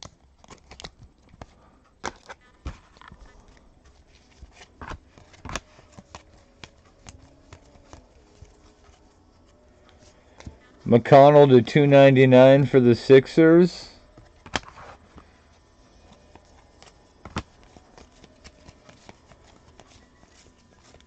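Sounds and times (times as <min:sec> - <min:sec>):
trading cards flipped by hand: 0:00.0 - 0:10.6, 0:14.1 - 0:15.3, 0:16.0 - 0:21.0.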